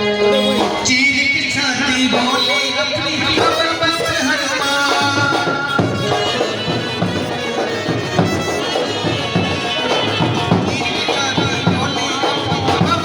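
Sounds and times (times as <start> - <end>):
reedy wind instruments melody: 0.0 - 13.0
steady drum beats: 0.0 - 13.0.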